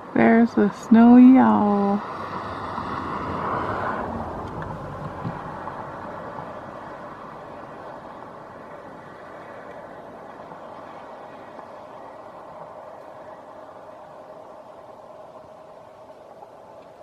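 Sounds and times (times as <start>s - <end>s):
vehicle running noise: 0.0s - 16.6s.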